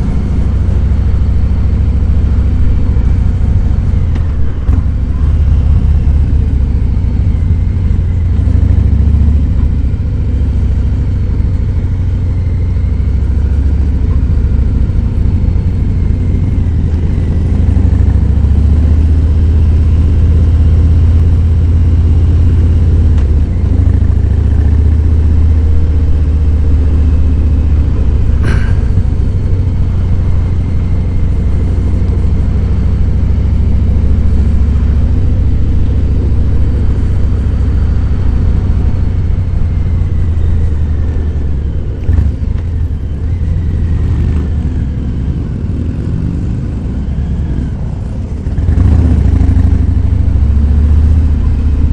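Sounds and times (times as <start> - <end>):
motorcycle engine rumbling: 0.0 - 51.9.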